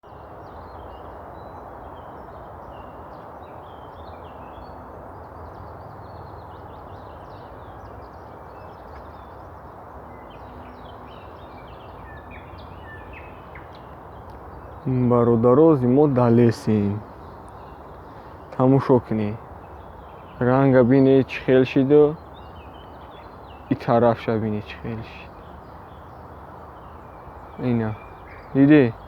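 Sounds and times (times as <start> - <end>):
small birds chirping and singing: 0.0 - 29.0.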